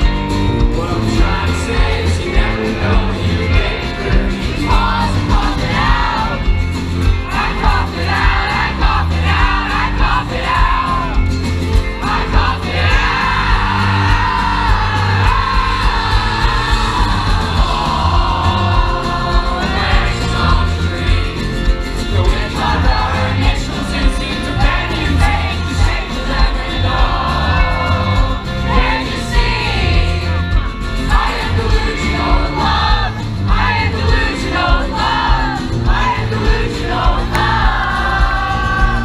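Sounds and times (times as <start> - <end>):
person singing lead vocal: 0.0 - 39.0
rock band playing loud: 0.0 - 39.0.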